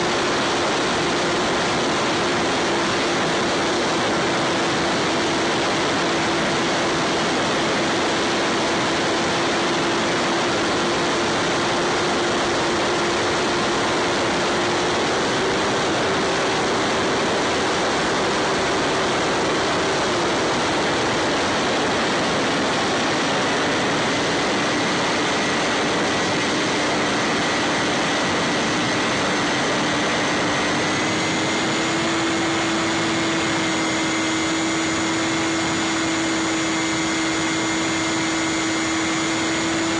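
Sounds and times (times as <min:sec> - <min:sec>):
electric motor and propeller whirring: 0:00.0 - 0:39.9
wind rush: 0:00.0 - 0:39.9.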